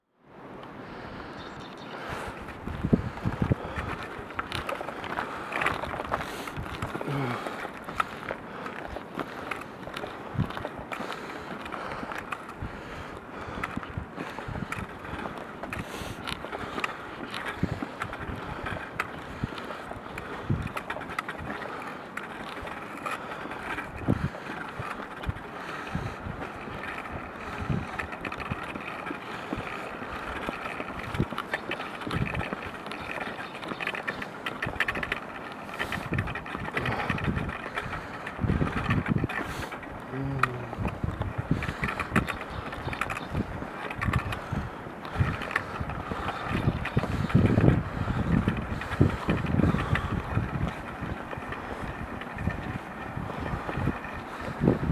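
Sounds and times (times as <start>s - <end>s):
footsteps crunching on snowy ice: 1.9s - 54.9s.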